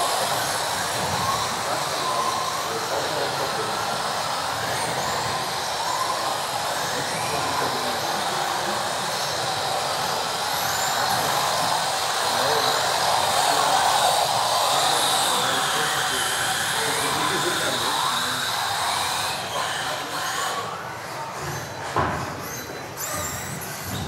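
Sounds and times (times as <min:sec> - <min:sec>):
rc car motors whining: 0:00.0 - 0:24.0.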